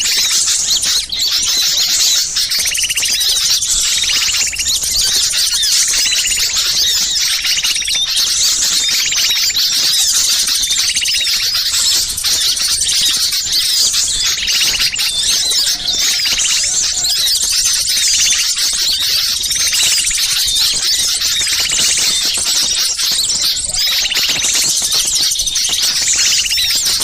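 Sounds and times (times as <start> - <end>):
buzzy bird call: 0.0 - 27.0
songbirds chattering: 0.0 - 27.0.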